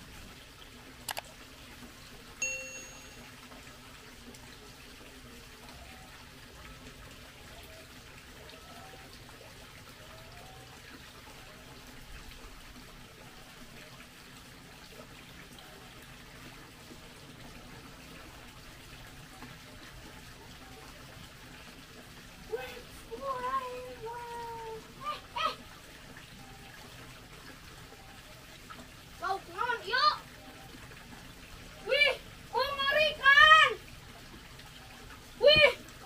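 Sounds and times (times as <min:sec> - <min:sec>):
water trickling: 0:00.0 - 0:36.0.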